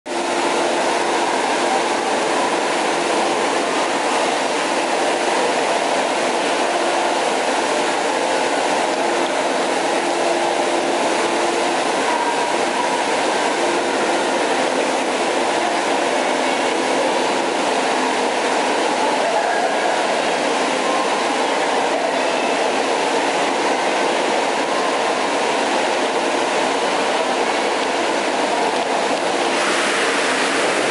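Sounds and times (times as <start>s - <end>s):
waterfall rushing in echoing hall: 0.1s - 30.9s.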